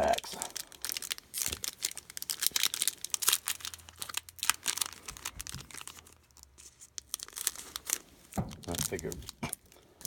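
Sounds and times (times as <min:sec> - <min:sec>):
wrapper crinkling and tearing: 0:00.0 - 0:09.9.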